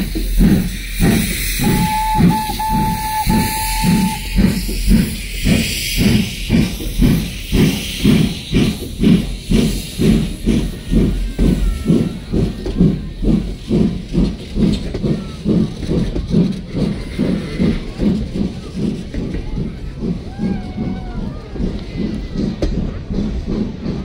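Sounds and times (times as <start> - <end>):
steam hissing: 0.0 - 24.0
steam locomotive chuffing: 0.0 - 24.0.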